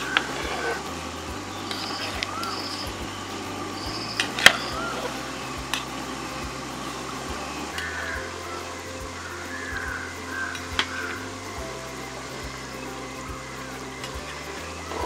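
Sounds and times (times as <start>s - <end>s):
high chirps: 0.0s - 15.0s
steady hiss: 0.0s - 15.0s.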